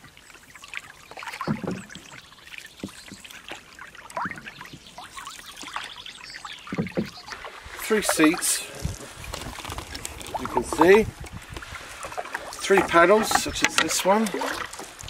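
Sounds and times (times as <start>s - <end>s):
canoe paddles splashing in water: 0.0s - 15.0s.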